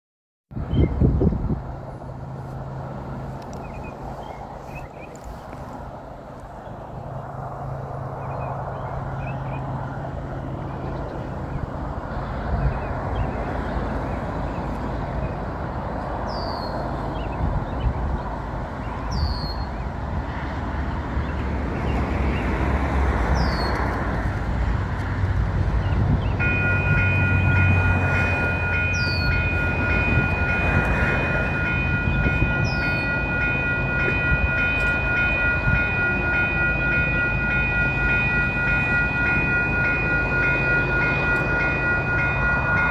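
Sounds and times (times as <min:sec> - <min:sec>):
diesel locomotive engine drone: 0:00.5 - 0:42.9.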